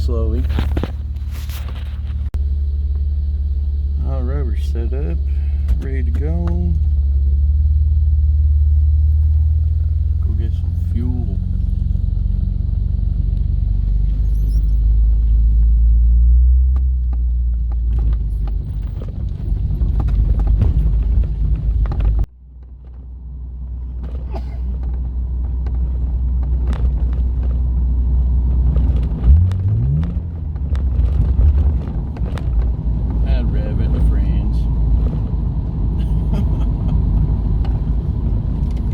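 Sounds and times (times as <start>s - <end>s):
car engine revving: 0.0s - 22.3s, 25.7s - 38.9s
car exhaust drone: 0.0s - 38.9s.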